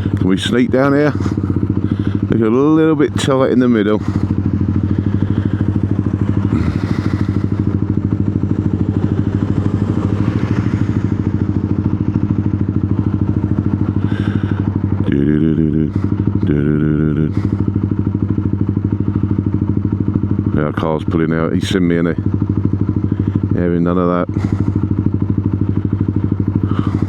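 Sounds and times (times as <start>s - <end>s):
motorcycle engine at low revs: 0.0s - 27.0s.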